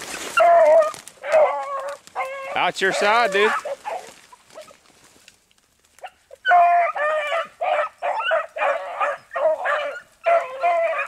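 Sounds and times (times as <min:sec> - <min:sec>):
hound baying: 0:00.3 - 0:04.8, 0:06.0 - 0:11.0.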